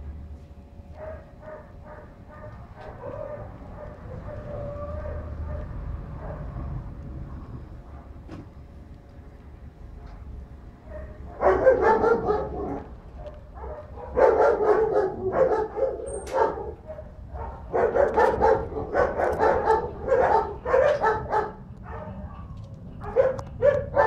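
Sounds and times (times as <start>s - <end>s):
dog barking: 0.9s - 6.7s, 7.8s - 8.2s, 10.0s - 24.0s.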